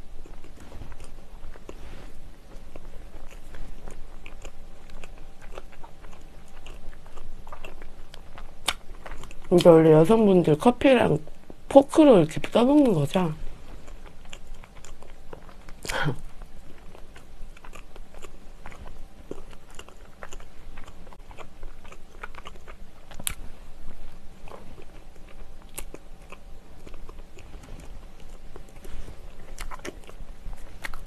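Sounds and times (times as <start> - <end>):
close chewing mouth sounds: 0.0 - 31.0.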